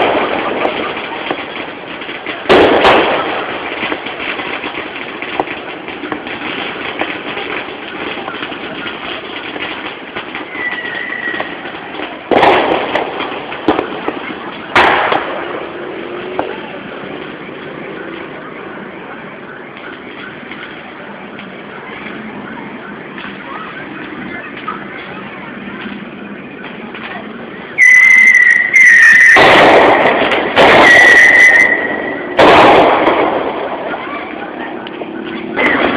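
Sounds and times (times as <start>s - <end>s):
small firework pops: 0.0s - 16.8s, 23.1s - 35.9s
background noise: 0.0s - 35.9s
fireworks banging with crackle: 0.0s - 35.9s.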